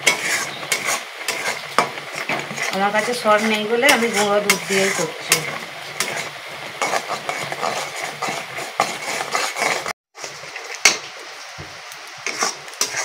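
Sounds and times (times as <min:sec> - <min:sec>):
metal spatula scraping metal pan: 0:00.0 - 0:10.6, 0:12.2 - 0:13.0.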